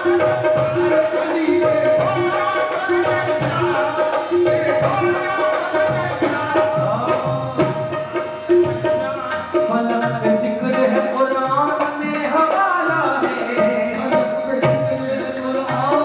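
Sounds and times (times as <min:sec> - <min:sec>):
harmonium: 0:00.0 - 0:16.0
people singing: 0:00.0 - 0:16.0
tabla strokes: 0:00.0 - 0:16.0.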